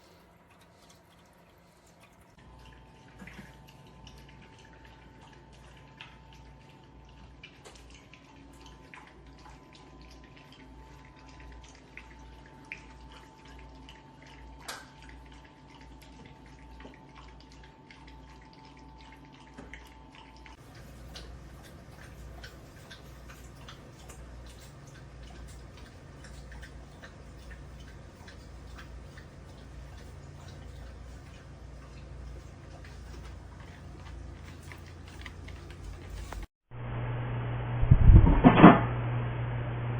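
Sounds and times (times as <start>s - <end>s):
water trickling and dripping: 0.0s - 36.5s
low electric pump hum: 0.0s - 39.9s.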